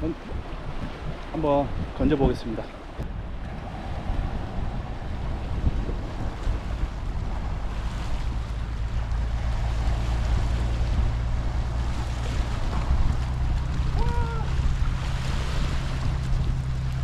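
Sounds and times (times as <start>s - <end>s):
wind rumbling on microphone: 0.0s - 17.0s
waves washing on rocks: 0.3s - 17.0s.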